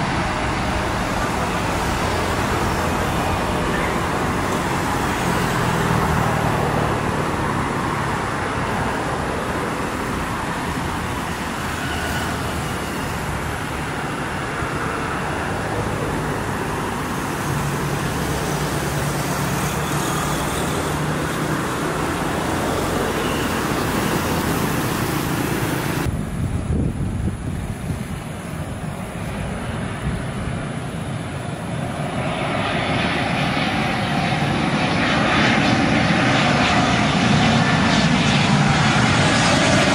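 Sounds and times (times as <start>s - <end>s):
cars passing on road: 0.0s - 39.9s
distant jet engines roaring: 0.0s - 39.9s.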